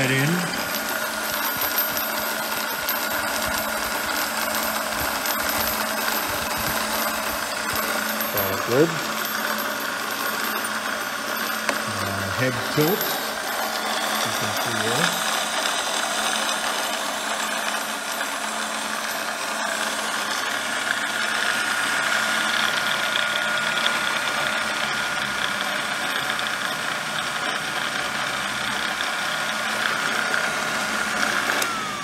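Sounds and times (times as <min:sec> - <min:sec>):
grinder motor humming with whine: 0:00.0 - 0:32.0.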